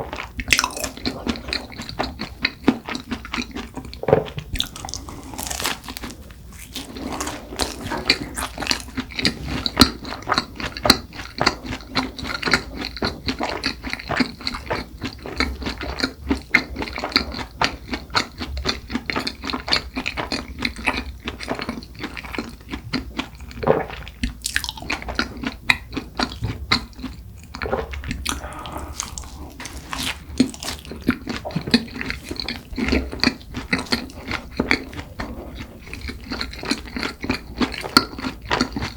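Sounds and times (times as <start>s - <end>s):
close chewing and biting: 0.0s - 38.9s.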